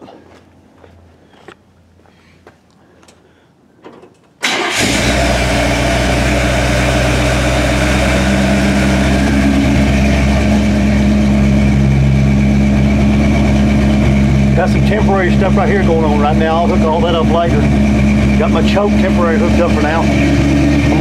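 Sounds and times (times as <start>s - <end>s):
truck engine starting and idling: 4.1s - 21.0s.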